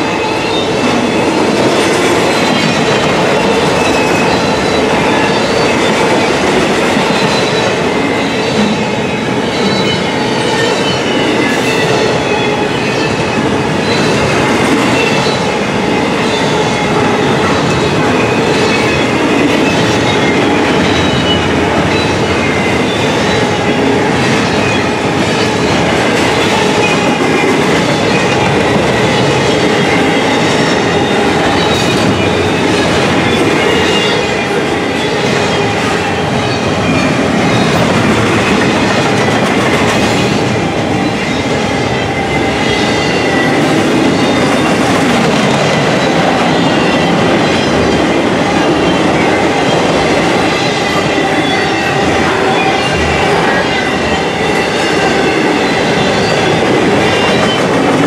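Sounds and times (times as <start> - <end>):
clickety-clack over rail joints: 0.0 - 8.9, 9.5 - 58.0
train wheels rumbling on rail: 0.0 - 58.0.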